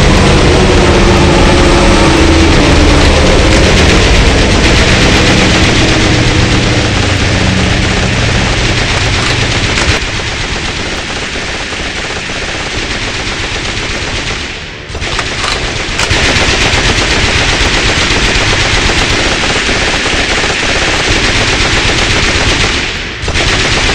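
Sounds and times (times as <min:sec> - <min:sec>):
aircraft engine drone: 0:00.0 - 0:23.3
machine-gun fire: 0:00.0 - 0:23.9.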